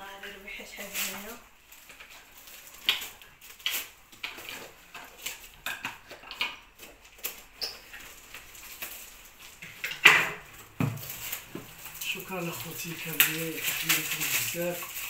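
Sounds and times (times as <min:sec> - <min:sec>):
wrapping paper rustling and crinkling: 0:00.0 - 0:15.0
scissors cutting packaging: 0:00.8 - 0:15.0.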